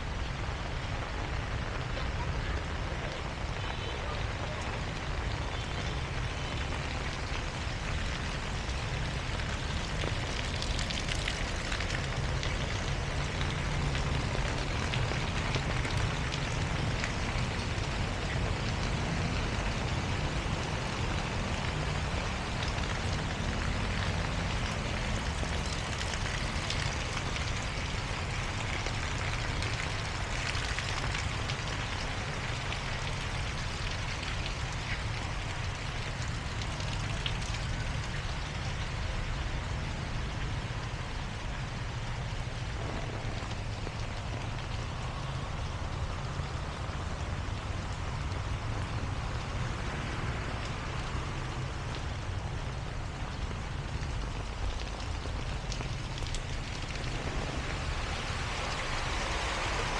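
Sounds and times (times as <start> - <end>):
heavy rain falling: 0.0 - 59.9
raindrop hits: 0.1 - 59.9.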